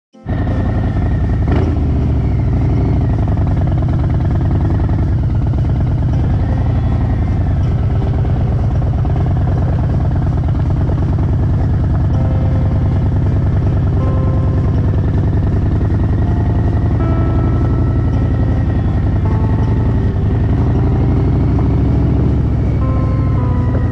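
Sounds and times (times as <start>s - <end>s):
motorcycle engine running: 0.2s - 23.9s.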